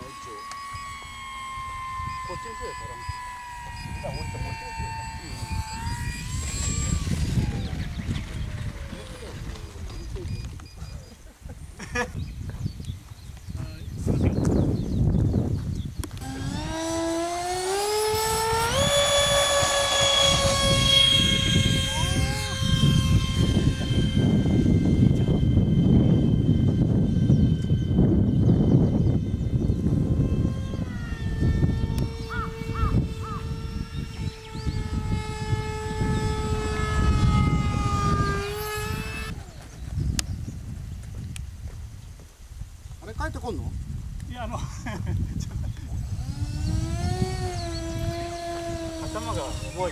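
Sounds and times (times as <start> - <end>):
model jet engine whine: 0.0 - 49.9.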